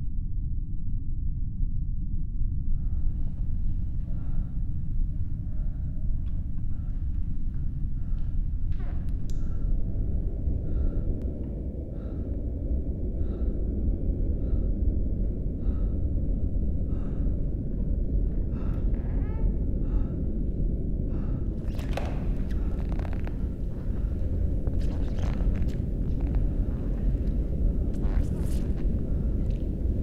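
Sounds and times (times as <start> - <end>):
low rumble: 0.0 - 30.0
heavy rhythmic breathing: 2.8 - 30.0.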